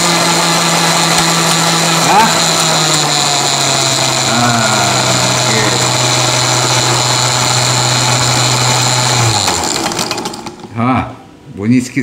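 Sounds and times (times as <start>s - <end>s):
blender blending ice: 0.0s - 10.7s.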